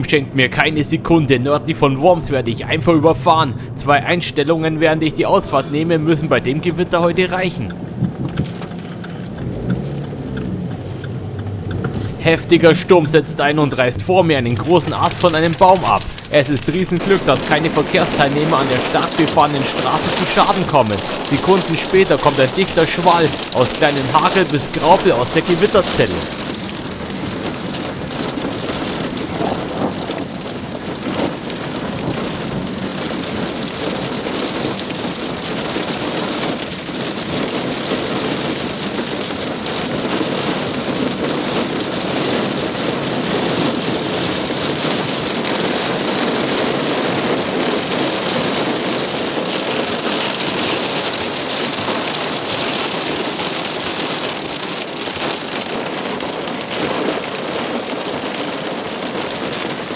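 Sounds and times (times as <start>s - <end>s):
hail pelting down: 11.9s - 59.9s.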